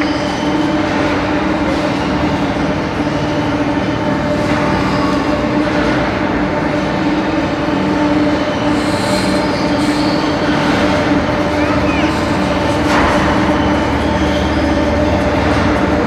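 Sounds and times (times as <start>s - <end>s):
overhead crane electric hum: 0.0s - 16.0s.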